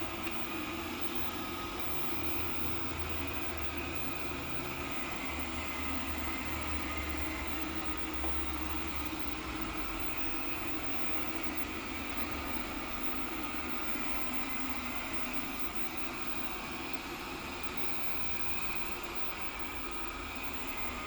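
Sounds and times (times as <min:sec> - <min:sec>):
robot cleaner motor hum: 0:00.0 - 0:21.0.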